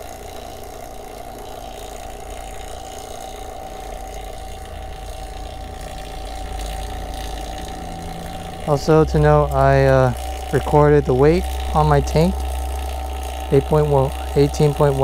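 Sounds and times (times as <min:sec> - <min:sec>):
vacuum pump humming and whining: 0:00.0 - 0:15.0.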